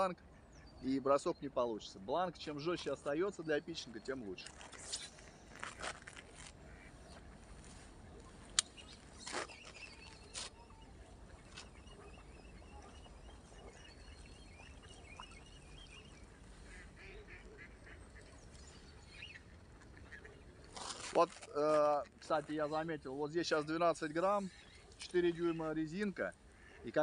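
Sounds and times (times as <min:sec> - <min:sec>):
faint wavering bird calls: 0:00.0 - 0:21.1, 0:22.3 - 0:27.0.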